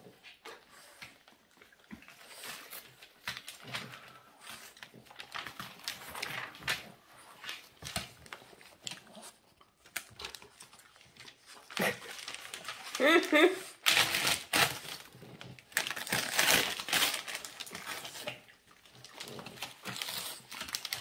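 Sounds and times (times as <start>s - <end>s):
paper crinkling and tearing: 2.0s - 21.0s.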